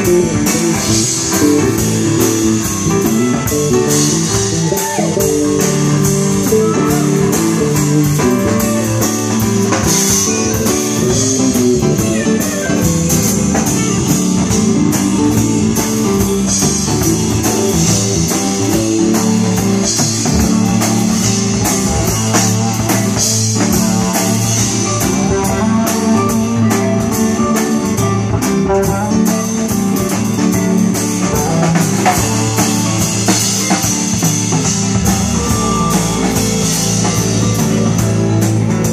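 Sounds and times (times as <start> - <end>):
live band playing instrumental: 0.0 - 38.9.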